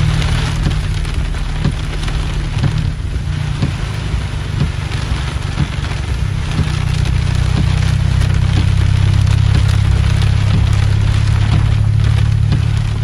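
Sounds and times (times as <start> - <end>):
heavy rain on glass: 0.0 - 13.0
low rumble: 0.0 - 13.0.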